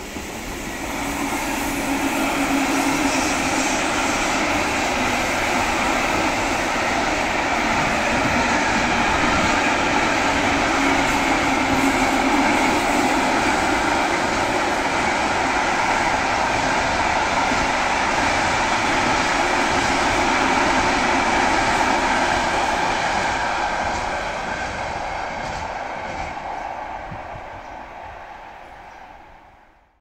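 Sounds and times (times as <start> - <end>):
train wheels rumbling on track: 0.0 - 29.9.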